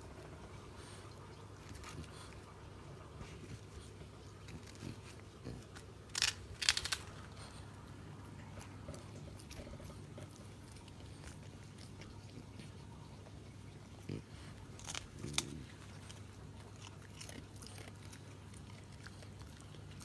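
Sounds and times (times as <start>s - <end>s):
dog crunching crackers: 0.2s - 20.0s.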